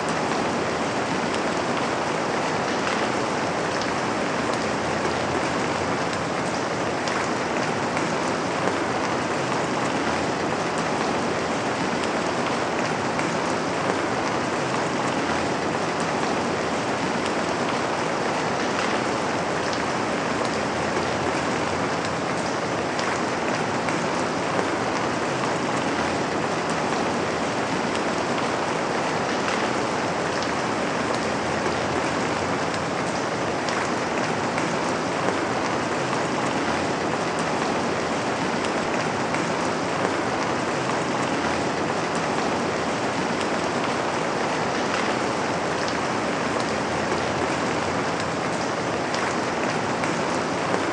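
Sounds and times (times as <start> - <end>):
rain on a window: 0.0 - 50.9.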